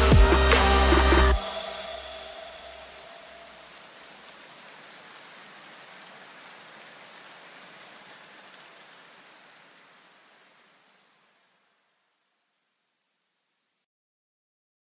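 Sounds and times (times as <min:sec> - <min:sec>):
faint steady hiss: 0:00.0 - 0:13.8.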